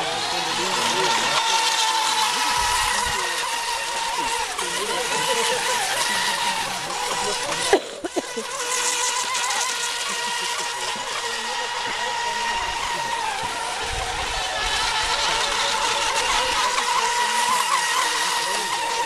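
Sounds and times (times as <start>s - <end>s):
boat motor whine: 0.0s - 19.0s.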